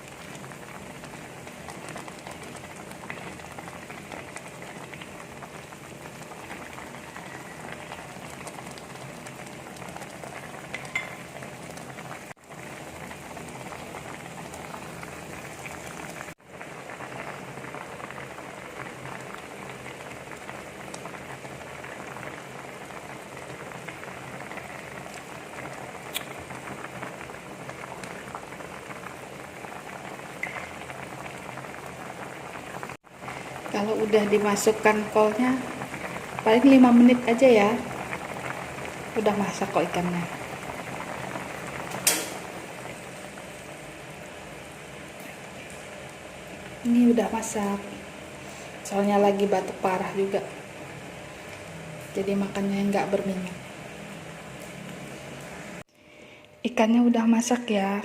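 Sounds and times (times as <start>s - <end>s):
broth boiling in a pot: 0.0s - 58.0s.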